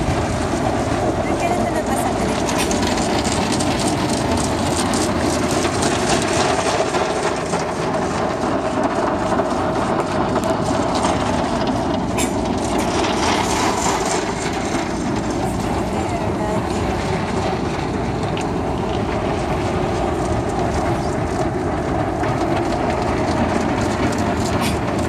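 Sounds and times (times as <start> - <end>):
water spraying on car roof: 0.0 - 25.0.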